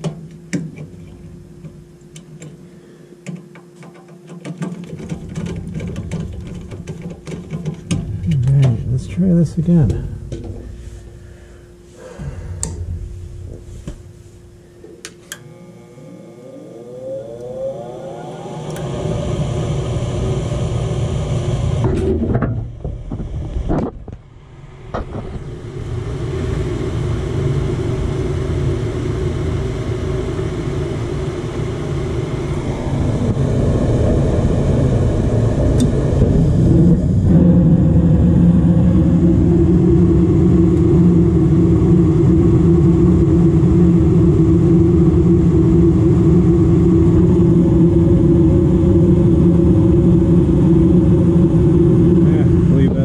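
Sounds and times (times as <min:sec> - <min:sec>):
furnace inducer motor whine: 0:00.0 - 0:53.0.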